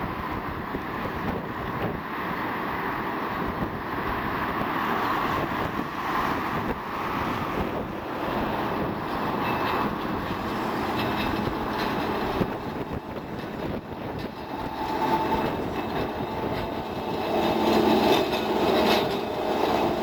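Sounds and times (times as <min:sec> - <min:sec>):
tram wheels rumbling on rail: 0:00.0 - 0:20.0
wind buffeting microphone: 0:00.0 - 0:20.0.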